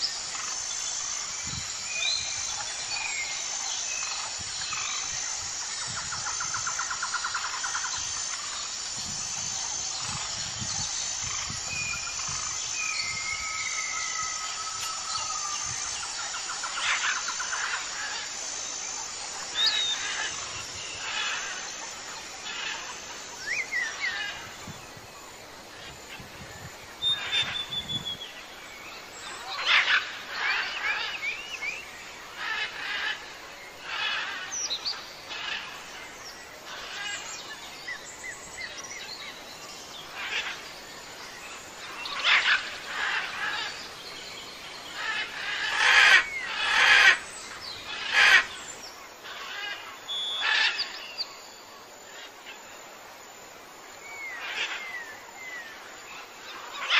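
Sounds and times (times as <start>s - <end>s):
birds chirping and calling: 0.0s - 25.0s, 25.8s - 51.4s.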